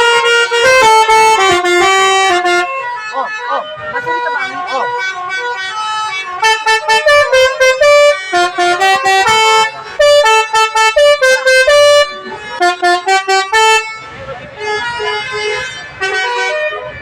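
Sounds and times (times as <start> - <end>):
multi-tone bus horn melody: 0.0 - 17.0.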